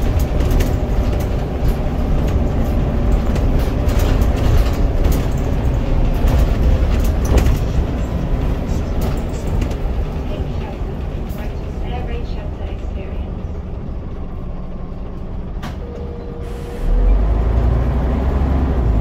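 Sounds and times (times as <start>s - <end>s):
bus engine rumble: 0.0s - 19.0s
engine and driveline whine: 0.0s - 19.0s
rattles and clicks from bus body: 0.0s - 19.0s.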